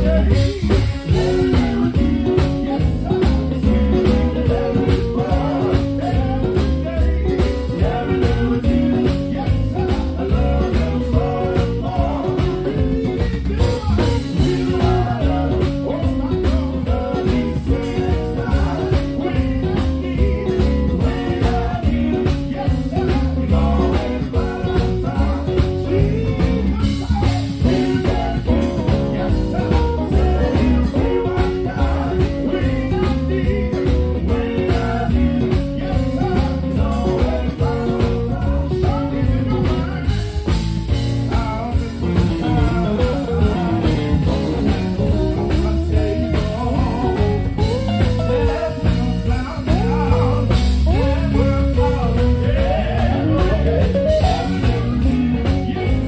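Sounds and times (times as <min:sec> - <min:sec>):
band beat with heavy bass: 0:00.0 - 0:56.0
electric guitars: 0:00.0 - 0:56.0
gospel group singing: 0:00.0 - 0:56.0.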